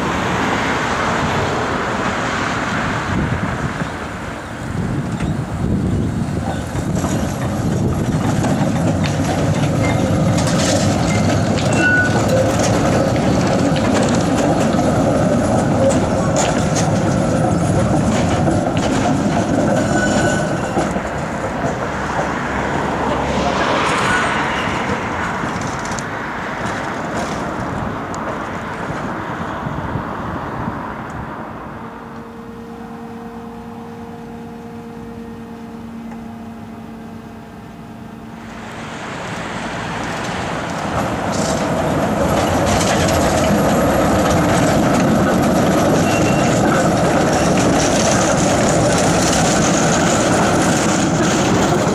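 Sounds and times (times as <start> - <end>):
tram motor hum: 0.0 - 51.9
trams rolling over rails: 0.0 - 51.9.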